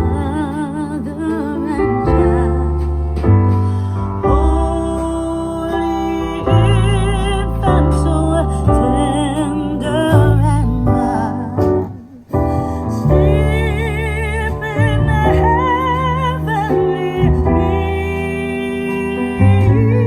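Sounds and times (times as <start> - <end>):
song over speaker: 0.0 - 20.0.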